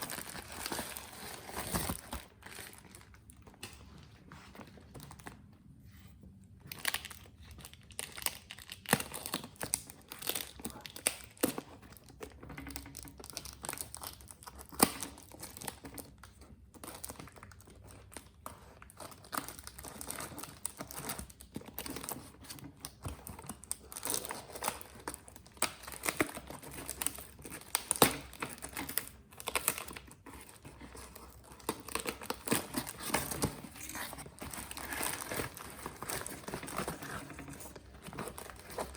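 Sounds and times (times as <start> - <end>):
packaging crinkling and tearing: 0.0 - 3.9, 6.7 - 38.9.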